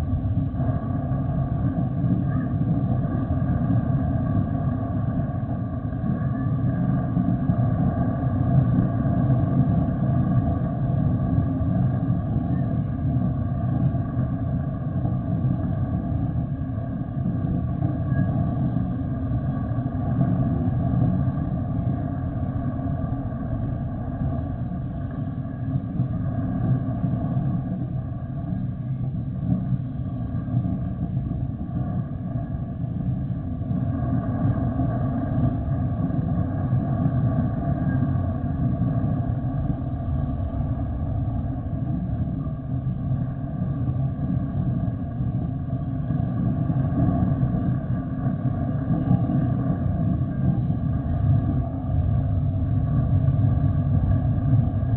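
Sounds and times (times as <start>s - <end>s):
jet engines rumbling and whining: 0.0s - 54.9s.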